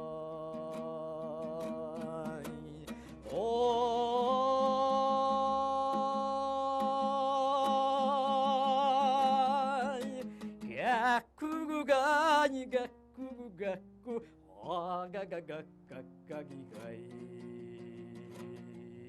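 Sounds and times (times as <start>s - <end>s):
plucked lute: 0.0s - 11.9s, 12.5s - 19.0s
person singing folk song: 0.0s - 19.0s.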